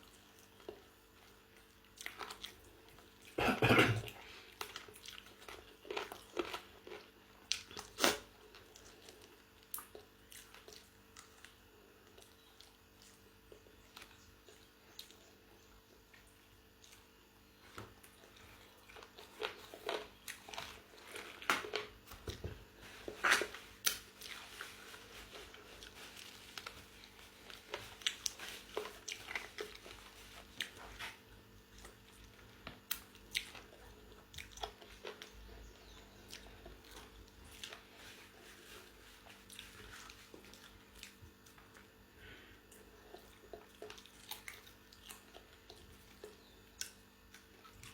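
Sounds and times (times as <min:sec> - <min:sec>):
person chewing crunchy food: 0:00.0 - 0:47.9.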